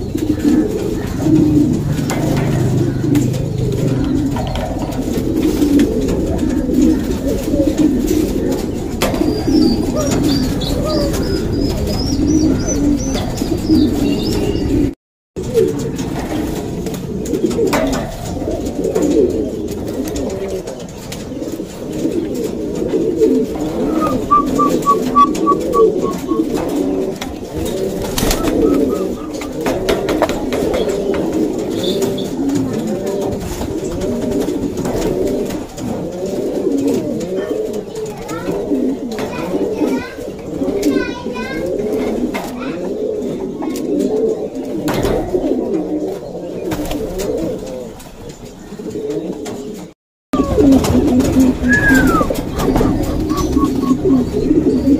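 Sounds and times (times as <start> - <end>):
pigeons cooing: 0.0 - 54.9.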